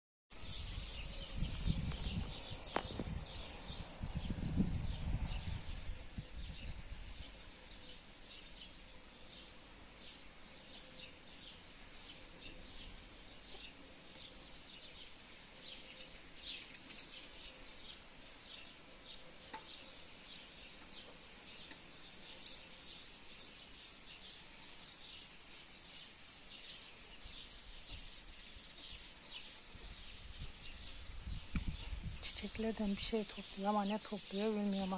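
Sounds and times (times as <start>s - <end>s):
bird chirping: 0.3s - 34.9s
light outdoor hiss: 0.4s - 34.9s.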